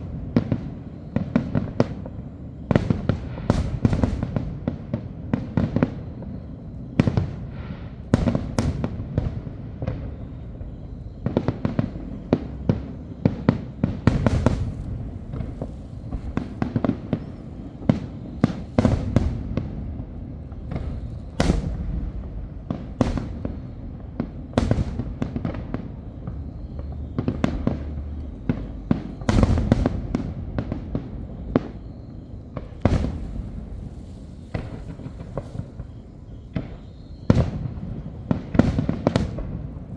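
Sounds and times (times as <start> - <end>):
fireworks bangs: 0.0 - 39.9
low rumble of shell bursts: 0.0 - 39.9.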